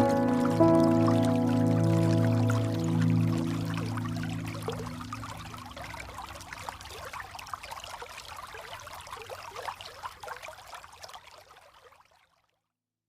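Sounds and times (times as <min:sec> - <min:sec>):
falling water splashing: 0:00.0 - 0:12.4.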